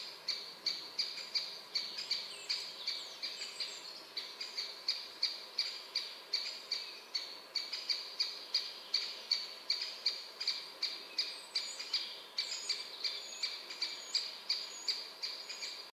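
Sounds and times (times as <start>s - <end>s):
bird chirping: 0.0s - 15.9s.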